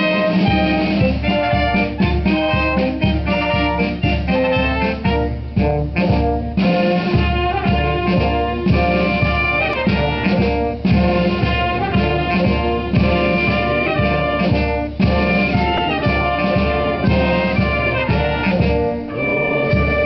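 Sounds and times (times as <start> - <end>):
military wind band playing anthem: 0.0 - 20.0.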